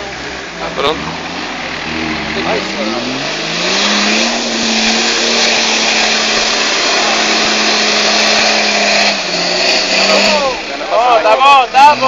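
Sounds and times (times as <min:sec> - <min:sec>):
off-road engine revving high: 0:00.0 - 0:12.0.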